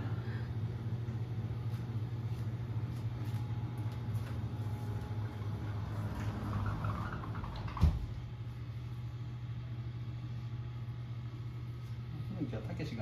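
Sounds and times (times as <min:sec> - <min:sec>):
oven toaster humming: 0:00.0 - 0:13.0.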